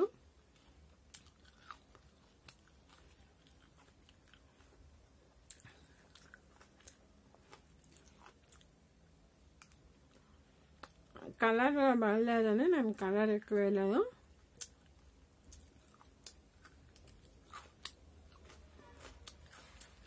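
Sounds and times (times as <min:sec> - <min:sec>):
faint chewing: 0:00.4 - 0:11.3, 0:14.4 - 0:20.0.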